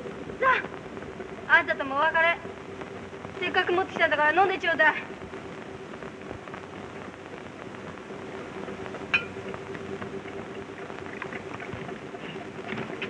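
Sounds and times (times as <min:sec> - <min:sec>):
film soundtrack hiss and hum: 0:00.0 - 0:13.0.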